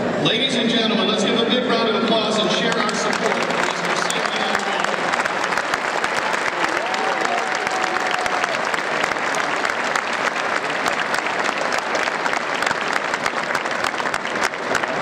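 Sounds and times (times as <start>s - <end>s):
large crowd applauding: 2.4s - 15.0s.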